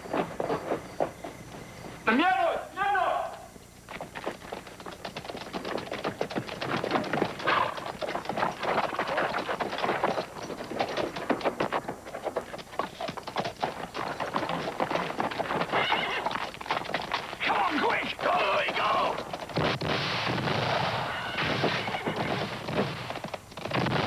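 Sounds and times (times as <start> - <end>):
horse hoofbeats: 0.0 - 2.3, 3.3 - 24.0.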